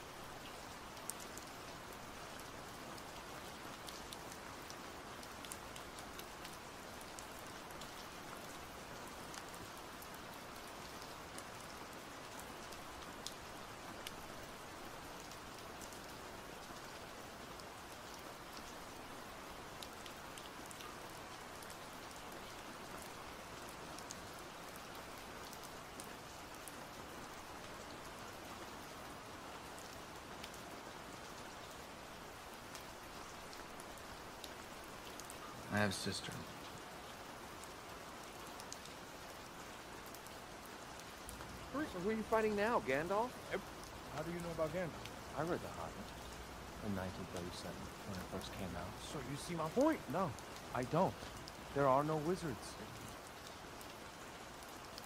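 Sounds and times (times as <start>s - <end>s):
steady rain falling: 0.0s - 55.0s
raindrops ticking: 0.4s - 28.4s, 29.6s - 55.0s.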